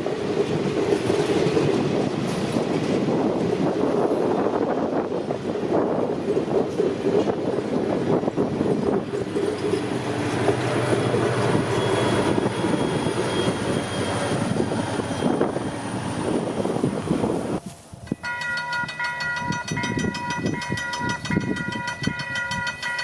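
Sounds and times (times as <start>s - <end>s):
train rumbling by: 0.0s - 23.0s.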